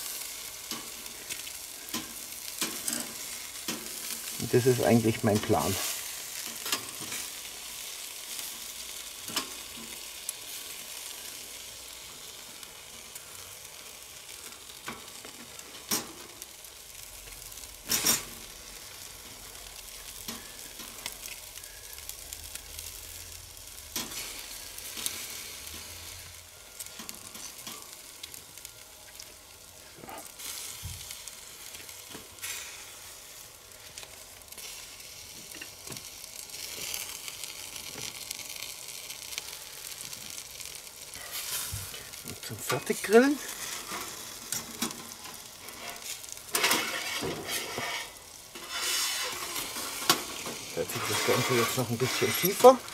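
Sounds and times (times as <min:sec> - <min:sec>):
meat sizzling on a grill: 0:00.0 - 0:52.9.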